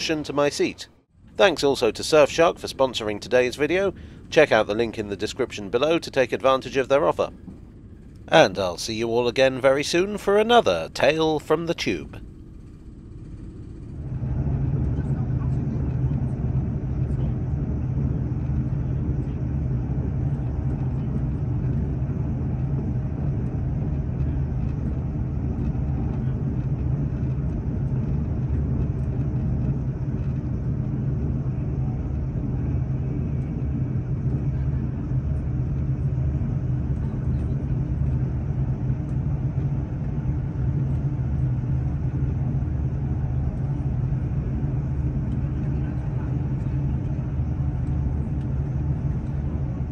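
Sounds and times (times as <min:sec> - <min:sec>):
train rumble inside carriage: 0:00.0 - 0:49.9.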